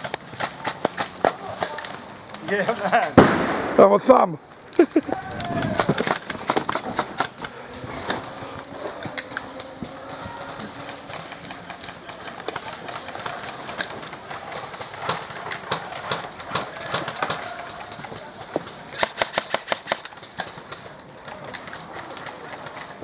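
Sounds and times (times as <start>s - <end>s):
airsoft guns firing: 0.0s - 4.3s, 4.9s - 22.7s.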